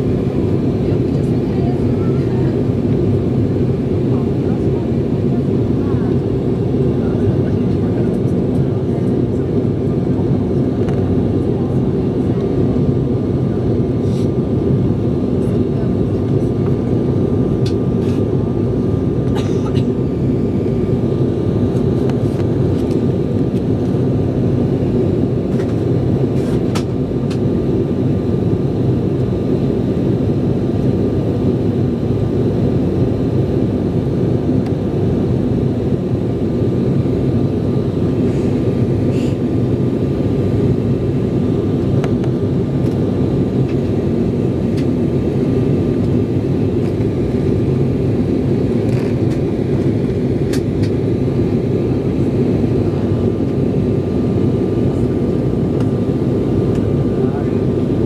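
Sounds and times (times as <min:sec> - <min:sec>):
jet engines and airflow rumble: 0:00.0 - 0:58.0.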